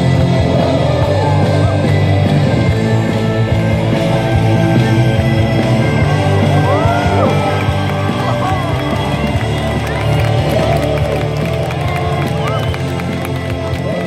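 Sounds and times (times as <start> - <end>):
music with low drone and pulse: 0.0 - 14.0.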